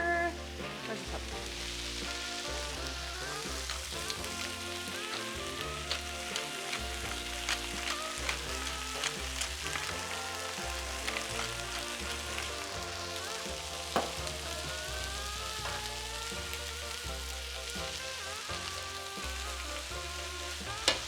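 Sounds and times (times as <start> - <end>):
background music: 0.0 - 21.0
sauce sizzling in a pan: 0.0 - 21.0.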